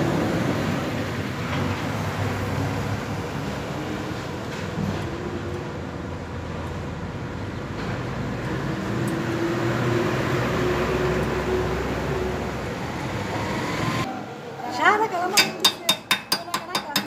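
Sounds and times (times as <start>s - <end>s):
fan and machinery whirring: 0.0s - 17.0s.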